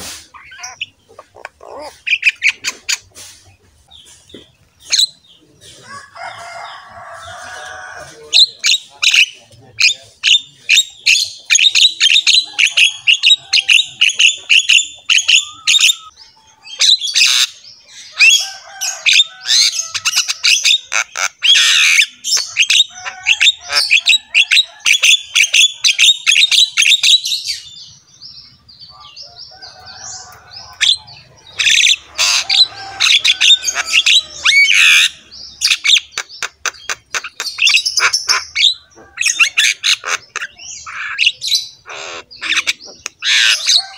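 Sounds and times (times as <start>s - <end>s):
birds chirping and squawking: 0.0s - 43.9s.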